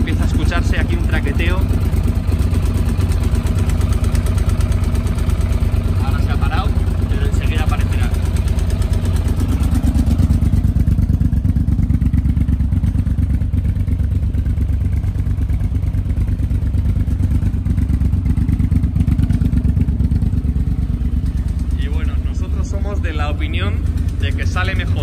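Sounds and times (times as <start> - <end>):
engine rattle: 0.0 - 25.0
motorcycle engine idling: 0.0 - 25.0.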